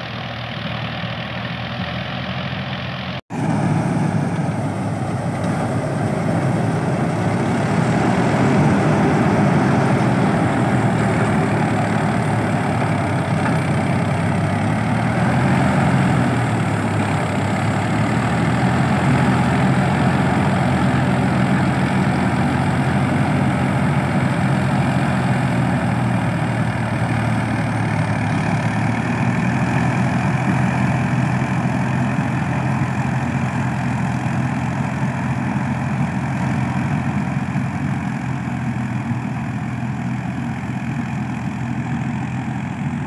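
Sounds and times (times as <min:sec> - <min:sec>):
combine harvester diesel engine: 0:00.0 - 0:43.0.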